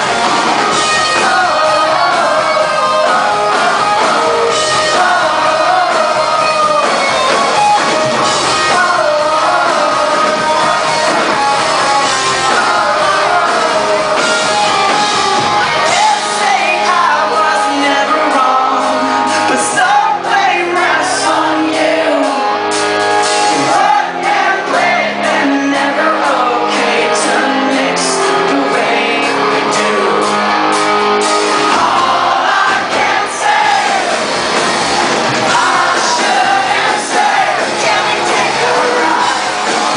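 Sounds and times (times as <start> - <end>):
lead vocal singing: 0.0 - 39.9
live rock band: 0.0 - 39.9.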